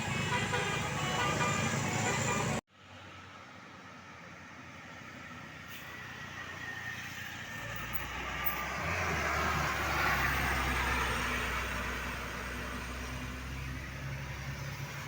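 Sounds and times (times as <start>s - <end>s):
heavy vehicle engine hum: 0.0s - 15.0s.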